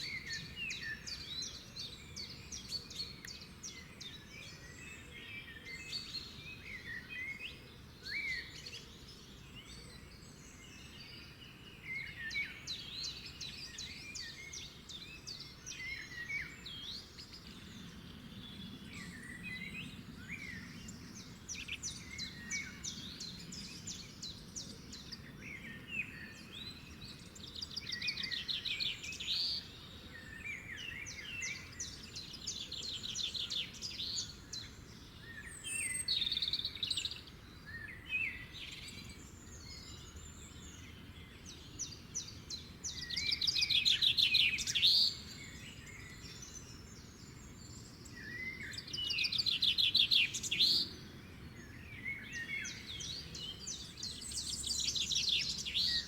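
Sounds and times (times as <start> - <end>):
faint low background noise: 0.0 - 56.0
songbirds chirping and singing: 0.0 - 56.0.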